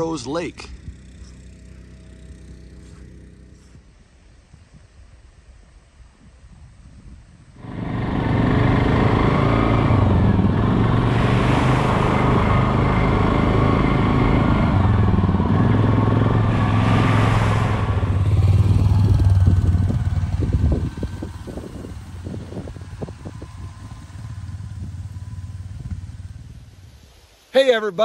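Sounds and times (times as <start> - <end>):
atv engine running: 0.0 - 4.0, 7.6 - 27.0
rumble from dirt trail: 0.0 - 27.3.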